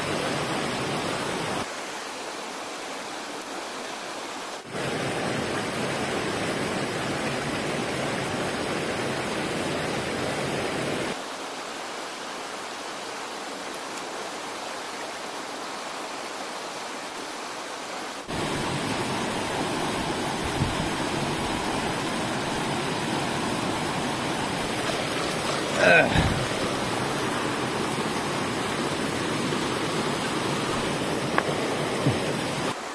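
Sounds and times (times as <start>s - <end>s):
stream rushing over rocks: 0.0s - 32.9s.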